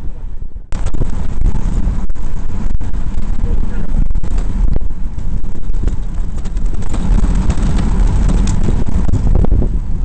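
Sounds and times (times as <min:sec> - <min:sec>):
road noise: 0:00.0 - 0:10.0
wind buffeting microphone: 0:00.0 - 0:10.0.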